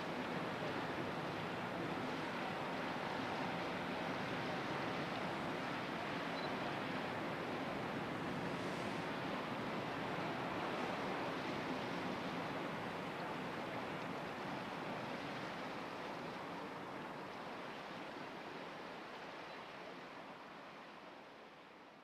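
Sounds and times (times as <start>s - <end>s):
water rushing from ship wash: 0.0s - 21.7s.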